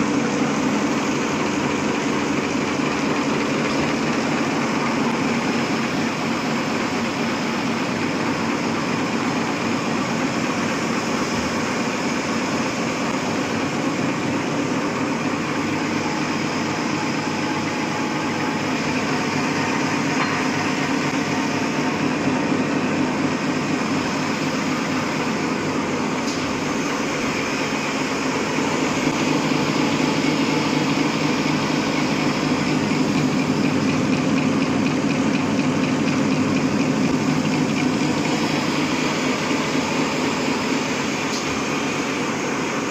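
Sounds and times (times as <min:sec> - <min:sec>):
machine hum: 0:00.0 - 0:42.9.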